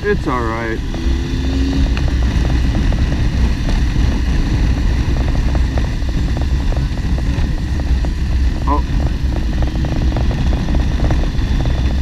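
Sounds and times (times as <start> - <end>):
motorcycle engine drone: 0.0 - 12.0
wind rumble on microphone: 0.0 - 12.0.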